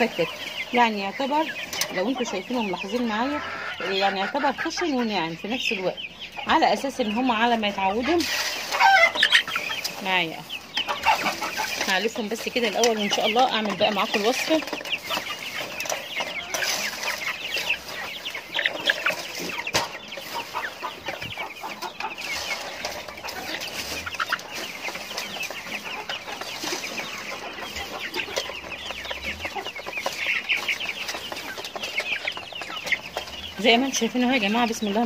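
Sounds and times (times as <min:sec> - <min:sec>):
chickens clucking and chirping: 0:00.0 - 0:35.0.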